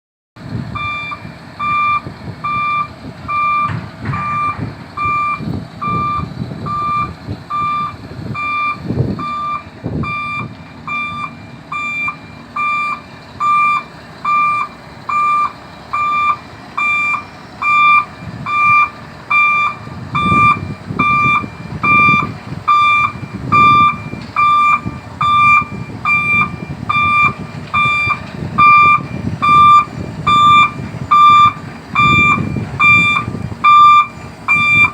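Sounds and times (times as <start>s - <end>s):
diesel engine running: 0.4s - 34.9s
crane warning beeps: 0.7s - 34.9s.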